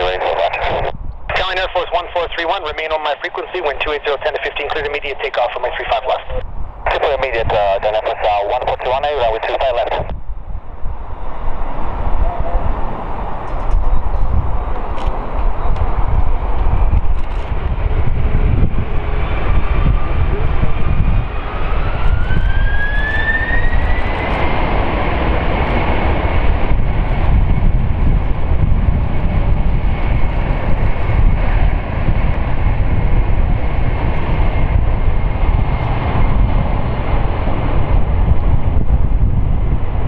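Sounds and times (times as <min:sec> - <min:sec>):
heavy low rumble: 0:00.0 - 0:40.0
jet engines whining: 0:00.0 - 0:40.0.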